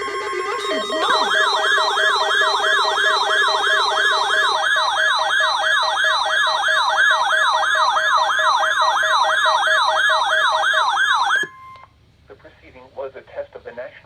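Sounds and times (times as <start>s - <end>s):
upward sweeping alert siren: 0.0s - 11.6s.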